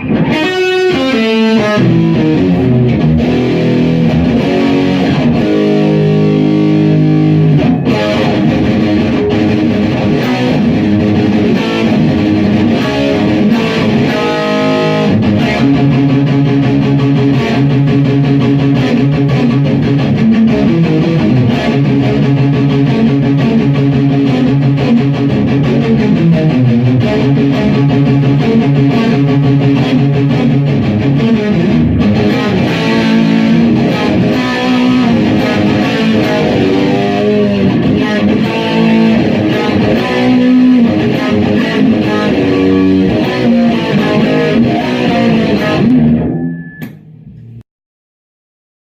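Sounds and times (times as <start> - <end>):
loud electric guitar: 0.0 - 47.6.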